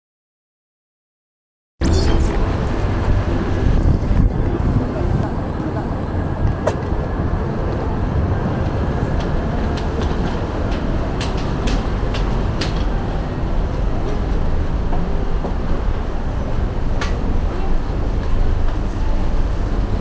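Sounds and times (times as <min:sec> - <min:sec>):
city traffic rumble: 0:01.8 - 0:20.0.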